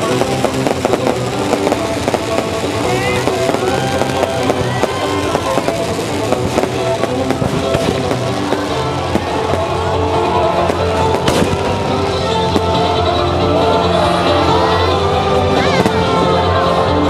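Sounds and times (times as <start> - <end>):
fireworks bursting and crackling: 0.0 - 16.8
loud music with held notes: 0.0 - 17.0.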